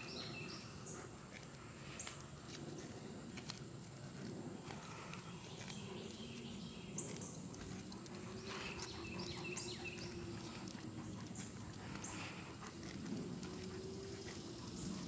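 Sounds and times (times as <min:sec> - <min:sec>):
dog walking: 0:00.0 - 0:15.0
low outdoor hum: 0:00.0 - 0:15.0.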